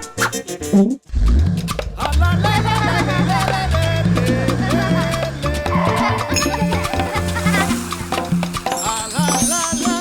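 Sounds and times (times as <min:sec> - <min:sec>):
upbeat salsa-like music: 0:00.0 - 0:10.0.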